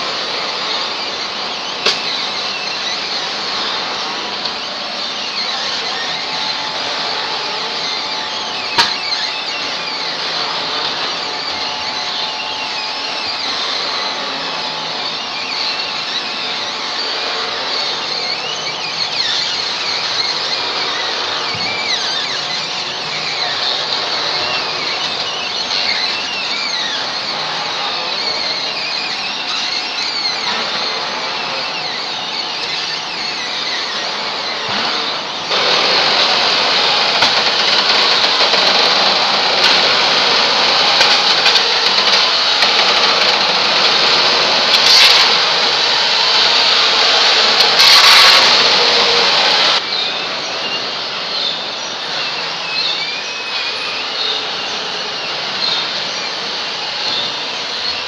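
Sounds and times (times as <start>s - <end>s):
high squeaking glides: 0.0s - 58.0s
mill machinery running: 0.0s - 58.0s.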